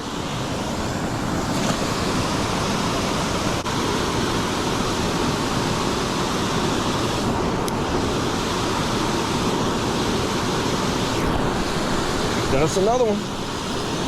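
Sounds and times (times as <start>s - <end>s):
river water rushing at spillway: 0.0s - 14.0s.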